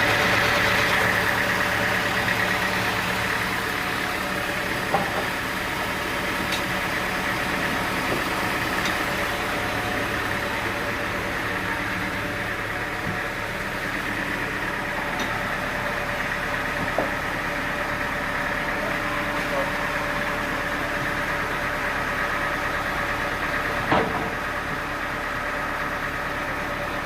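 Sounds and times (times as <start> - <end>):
machinery engine idling: 0.0 - 27.0.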